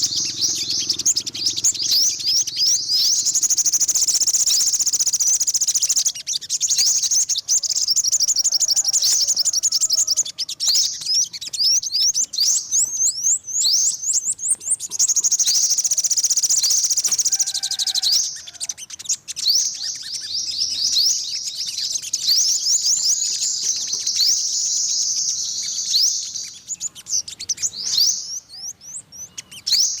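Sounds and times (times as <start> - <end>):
bird sweeping chirps: 0.0 - 30.0
bird trilling: 0.0 - 30.0.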